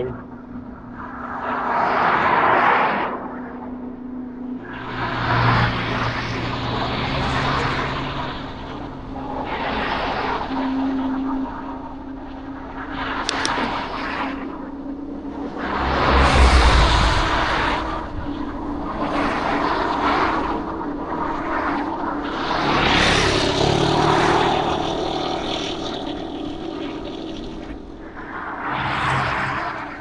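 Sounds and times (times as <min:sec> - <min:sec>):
wind rumble on microphone: 0:00.0 - 0:30.0
vehicles passing: 0:02.0 - 0:10.6, 0:13.2 - 0:30.0.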